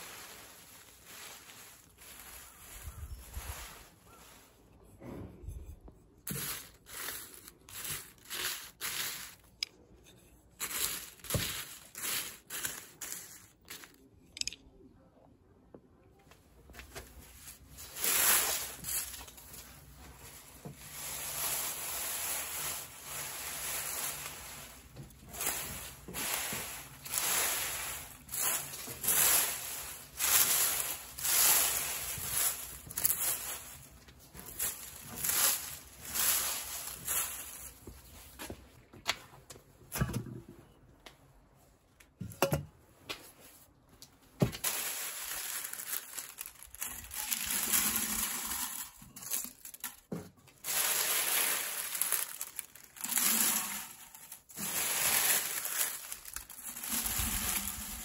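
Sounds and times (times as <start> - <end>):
tea leaves rustling: 0.0 - 4.8, 6.2 - 9.6, 10.6 - 14.1, 16.8 - 38.5, 44.6 - 58.0.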